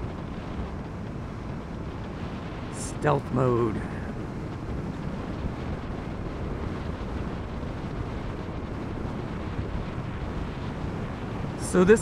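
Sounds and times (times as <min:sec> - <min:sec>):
wind rush over microphone: 0:00.0 - 0:12.0.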